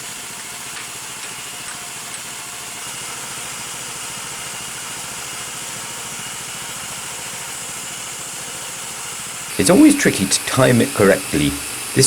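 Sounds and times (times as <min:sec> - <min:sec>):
bandsaw mill engine running: 0:00.0 - 0:12.0.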